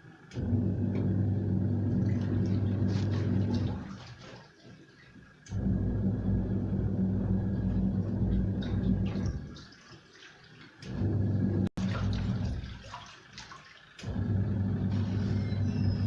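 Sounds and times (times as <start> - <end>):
washing machine motor hum: 0.0 - 16.0
water sloshing in washing machine: 0.0 - 16.0.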